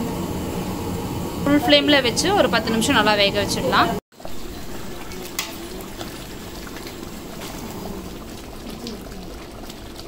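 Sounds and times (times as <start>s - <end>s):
pot boiling and bubbling: 0.0s - 10.0s.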